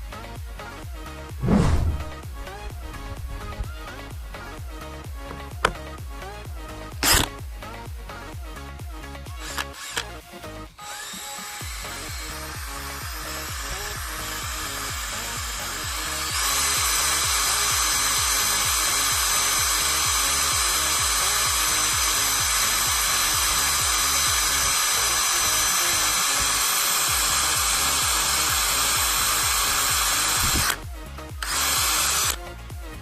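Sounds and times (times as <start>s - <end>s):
background music with beat: 0.0s - 33.0s
cordless drill whining: 2.0s - 7.4s, 9.1s - 32.6s.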